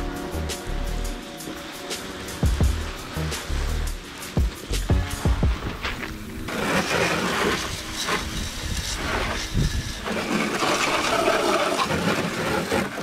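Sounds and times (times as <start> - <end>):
hose water spray splashing: 0.0 - 13.0.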